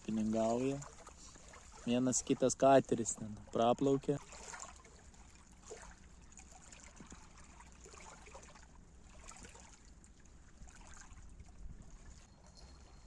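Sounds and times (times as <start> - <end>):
water lapping at shore: 0.0 - 13.0.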